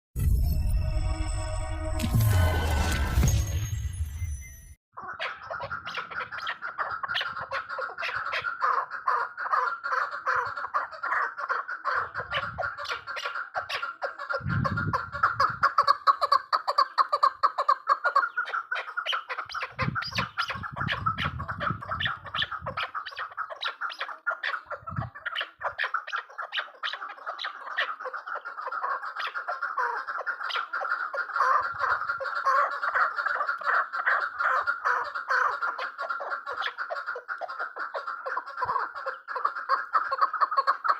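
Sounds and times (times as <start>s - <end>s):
partridge clucking calls: 5.0s - 40.9s.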